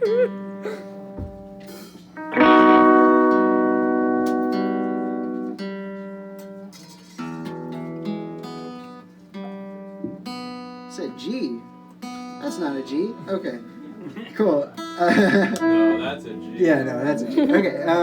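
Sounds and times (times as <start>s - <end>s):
guitar chord strummed: 0.0s - 14.1s, 14.7s - 18.0s
soft plucked guitar notes: 0.0s - 14.2s, 14.8s - 18.0s.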